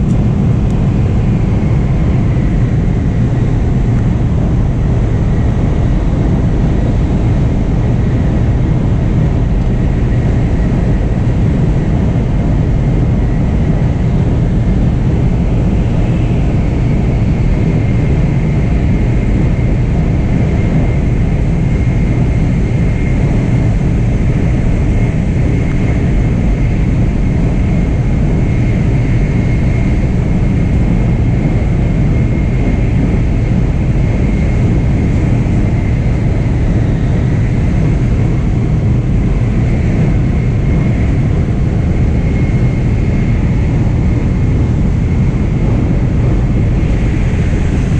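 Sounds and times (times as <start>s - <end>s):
train rumble in cabin: 0.0s - 47.9s.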